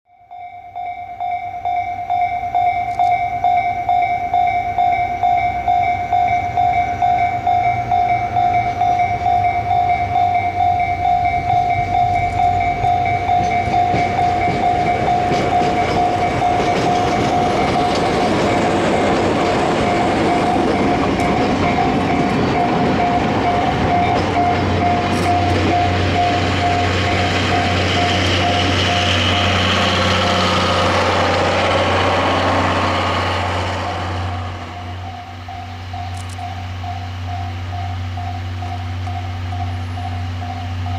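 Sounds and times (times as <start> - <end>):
crossing warning bell ringing: 0.1 - 40.9
train wheels rolling on rails: 1.3 - 40.9
diesel engine rumble: 7.8 - 40.9.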